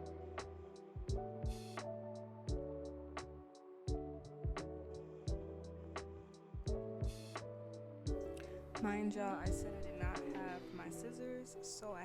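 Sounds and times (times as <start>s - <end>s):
music with chords and beat: 0.0s - 10.9s.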